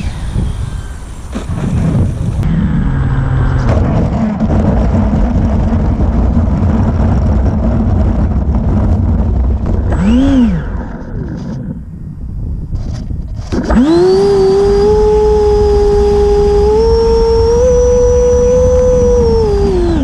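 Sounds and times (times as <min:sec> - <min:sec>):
ducted fan jet humming: 0:00.0 - 0:20.0
wind rumble: 0:00.0 - 0:20.0.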